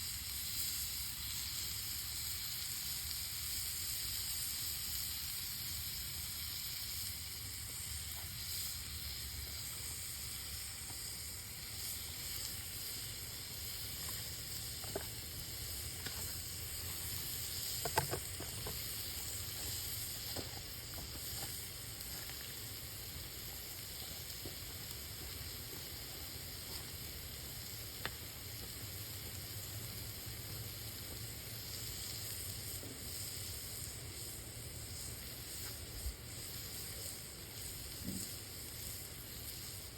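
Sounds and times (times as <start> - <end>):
meat sizzling in a pan: 0.0 - 39.9.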